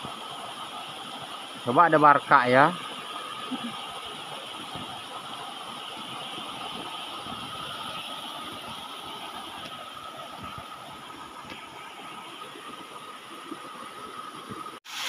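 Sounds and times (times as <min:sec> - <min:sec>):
small waterfall splashing: 0:00.0 - 0:15.0.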